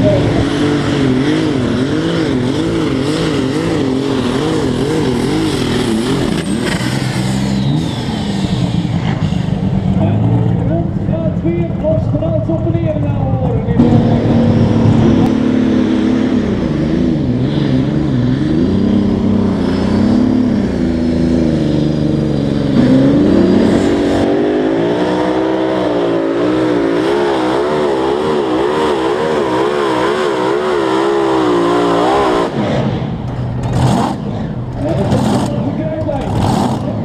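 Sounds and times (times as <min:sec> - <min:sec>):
tractor engine revving under load: 0:00.0 - 0:11.0, 0:13.7 - 0:37.0.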